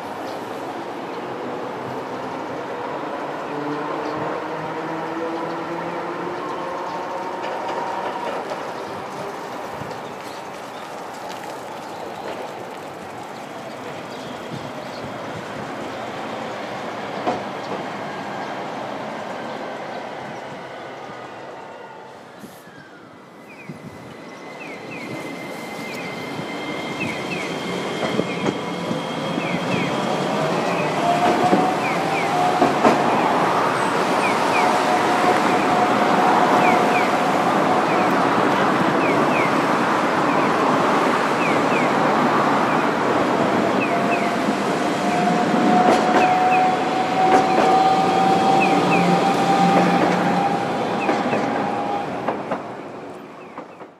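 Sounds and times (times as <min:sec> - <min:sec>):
tram electric drive whine: 0:00.0 - 0:53.9
wheels rumbling on rail: 0:00.0 - 0:53.9.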